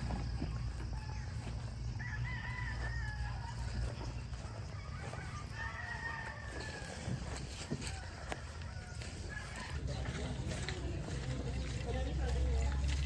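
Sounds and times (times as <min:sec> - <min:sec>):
rooster crowing: 0:00.0 - 0:10.6.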